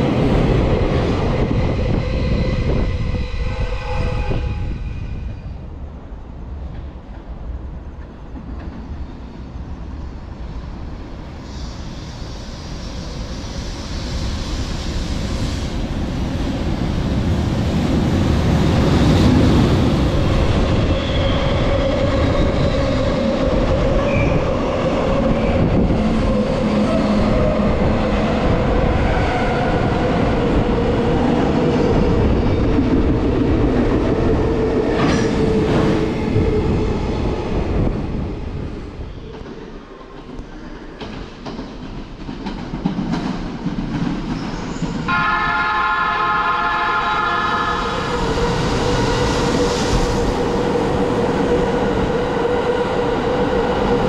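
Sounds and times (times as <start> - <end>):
train wheels rushing on rail: 6.4 - 54.0.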